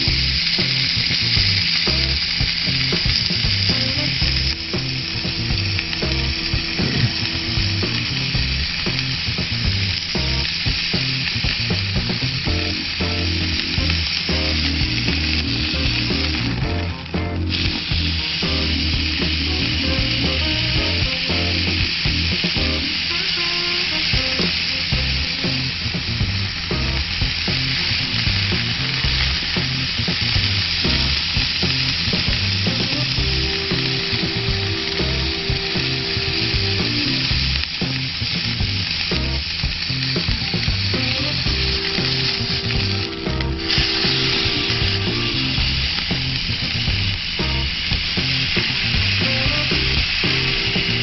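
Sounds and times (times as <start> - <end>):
background music: 0.0 - 51.0
meat sizzling on a grill: 0.0 - 51.0.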